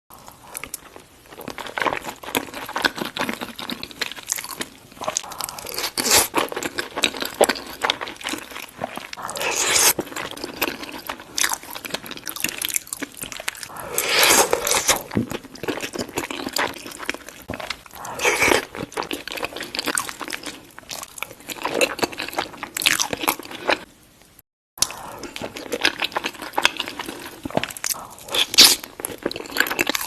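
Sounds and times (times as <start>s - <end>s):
chewing and crunching fries: 0.2s - 23.9s, 24.8s - 30.0s.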